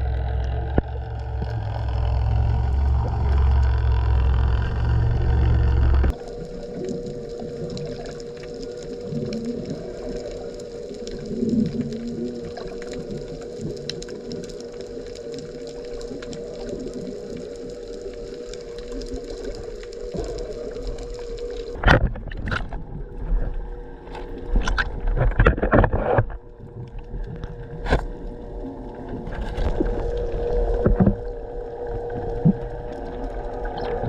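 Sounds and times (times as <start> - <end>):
underwater hum and gurgling: 0.0 - 34.0.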